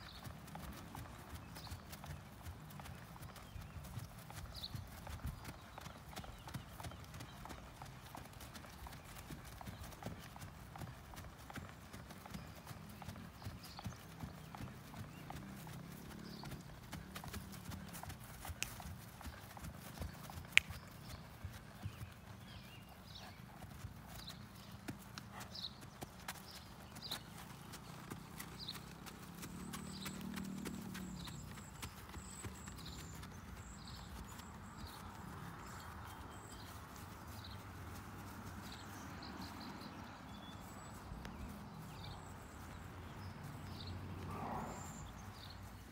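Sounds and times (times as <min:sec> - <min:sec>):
horse hoofbeats on grass: 0:00.0 - 0:45.9
small birds chirping: 0:00.0 - 0:45.9.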